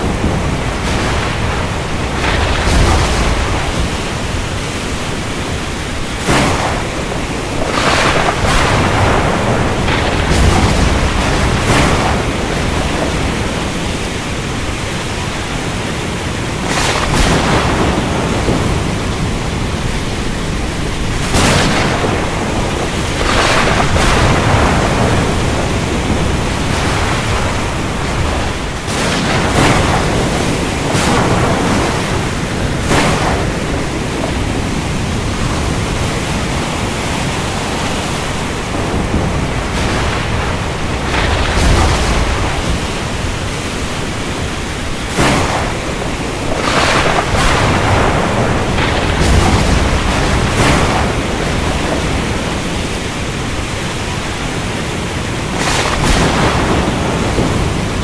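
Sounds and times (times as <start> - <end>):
rain and wind rushing: 0.0 - 58.0.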